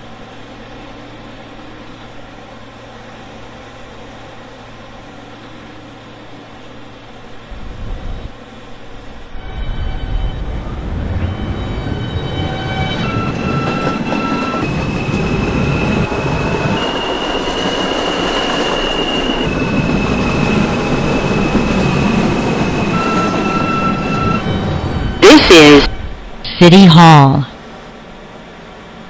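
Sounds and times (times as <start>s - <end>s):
wheels rumbling on rail: 0.0s - 26.5s.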